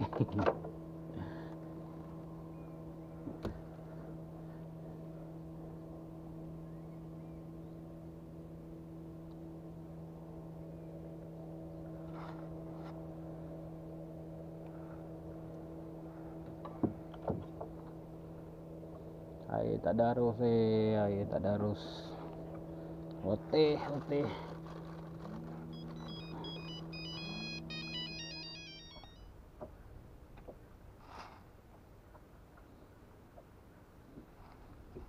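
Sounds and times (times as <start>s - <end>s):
steady motor hum: 0.0s - 31.0s.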